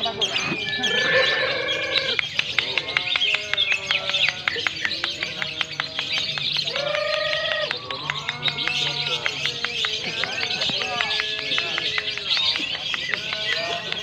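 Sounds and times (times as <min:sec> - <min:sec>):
lovebirds chirping trills: 0:00.0 - 0:14.0.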